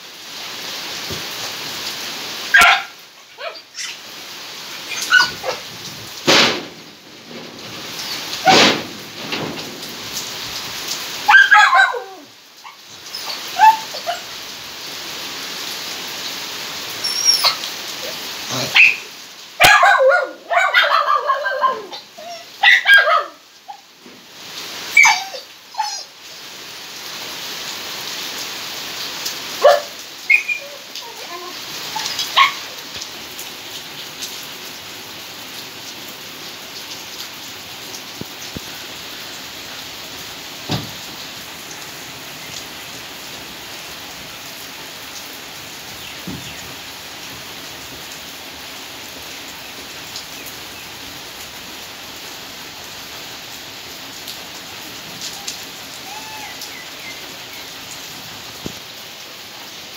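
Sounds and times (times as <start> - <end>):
rain on wet paving: 0.0 - 59.9.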